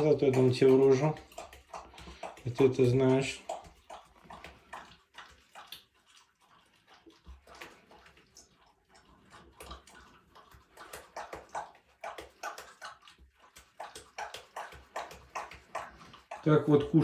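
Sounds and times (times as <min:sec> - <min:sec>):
animal chewing meat: 0:00.0 - 0:17.0.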